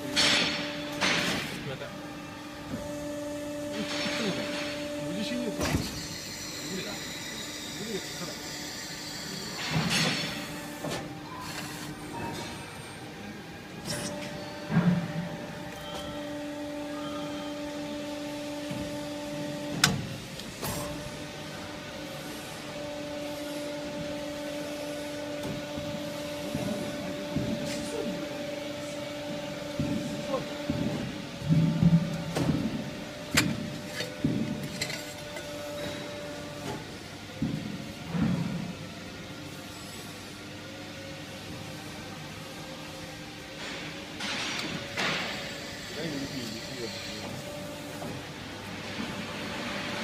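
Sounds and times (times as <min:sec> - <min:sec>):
high machine whine: 0:00.0 - 0:38.9, 0:39.5 - 0:50.0
bending machine hum: 0:00.0 - 0:50.0.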